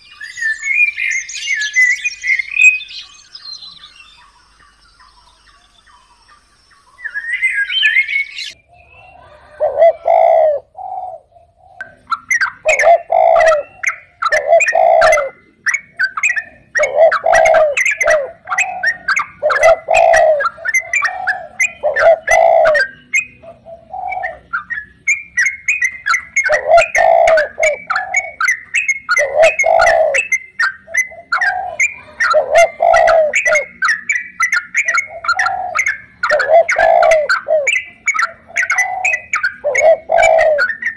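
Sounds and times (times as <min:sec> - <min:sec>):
doves cooing: 0:00.0 - 0:40.9
small birds chirping: 0:00.0 - 0:40.9.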